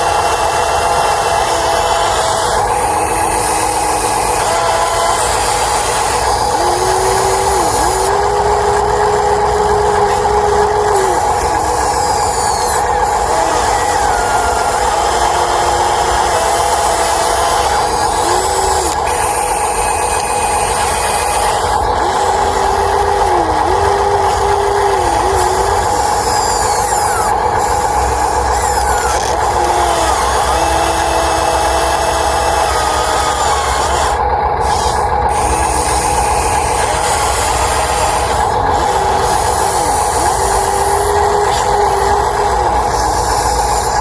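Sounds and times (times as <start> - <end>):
electric gear motors whining: 0.0 - 44.0
lower motor whine: 0.0 - 44.0.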